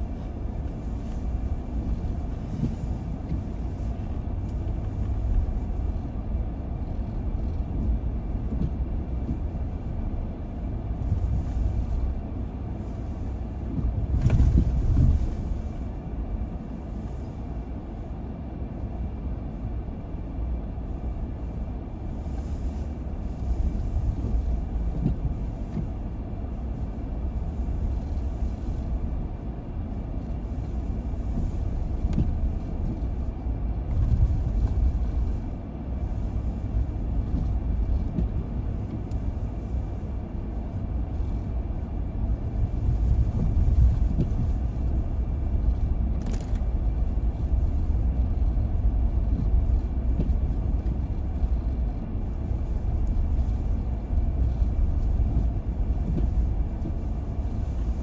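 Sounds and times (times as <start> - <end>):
car engine rumble: 0.0 - 58.0
tyres on road: 0.0 - 58.0.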